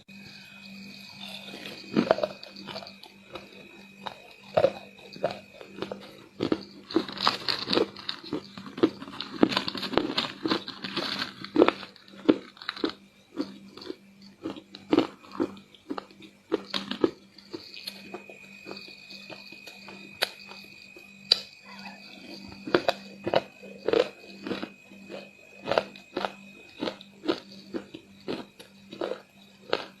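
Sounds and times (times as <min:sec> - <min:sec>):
crunching and chewing: 0:00.1 - 0:30.0.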